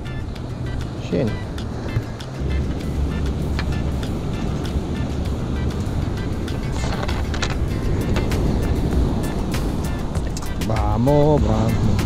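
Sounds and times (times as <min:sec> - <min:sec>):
background music: 0:00.0 - 0:12.0
wind rumble on microphone: 0:00.0 - 0:12.0.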